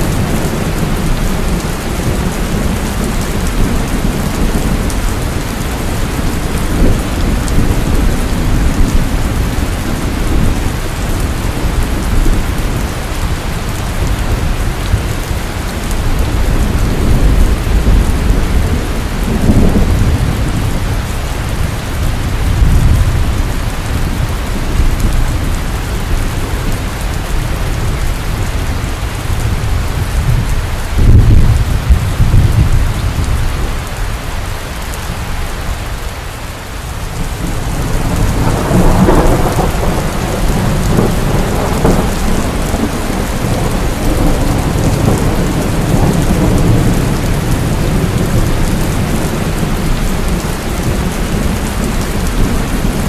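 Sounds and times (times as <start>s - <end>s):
deep rolling thunder: 0.0s - 33.9s, 37.1s - 53.0s
heavy rain falling: 0.0s - 53.0s.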